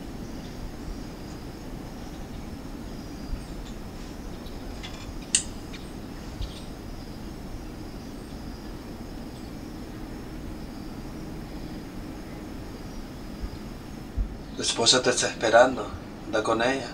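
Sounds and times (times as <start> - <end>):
insect trilling: 0.0 - 15.3
steady low hum: 0.0 - 16.9.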